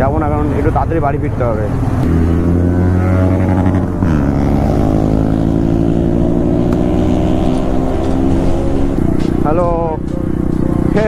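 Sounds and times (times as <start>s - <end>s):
motorcycle engine running: 1.7s - 11.0s.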